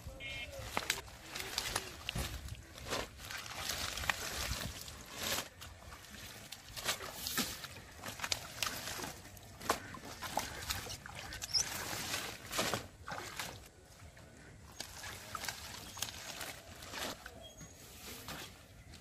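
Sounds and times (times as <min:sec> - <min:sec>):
plants rustling: 0:00.0 - 0:19.0
hands splashing in muddy water: 0:00.6 - 0:17.3.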